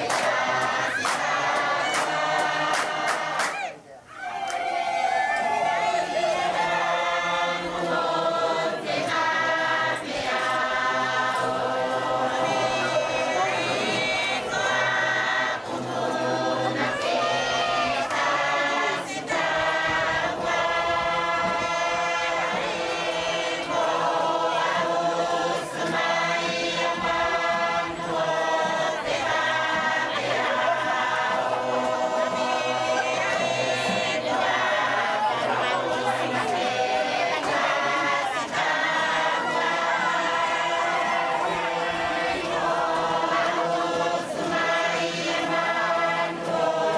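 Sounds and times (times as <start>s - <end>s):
group singing in chorus: 0.0s - 46.9s.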